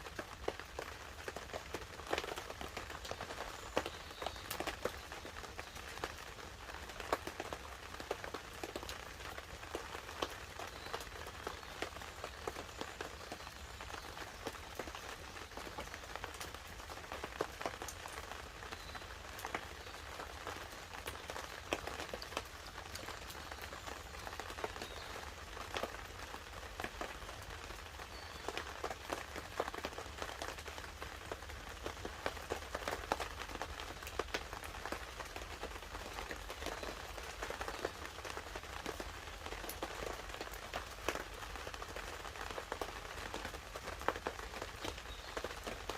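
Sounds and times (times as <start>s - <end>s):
rain pattering on a tarp: 0.0s - 45.9s.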